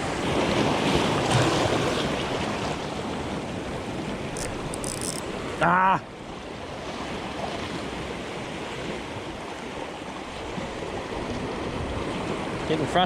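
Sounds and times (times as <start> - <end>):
ocean surf washing over rocks: 0.0 - 13.0.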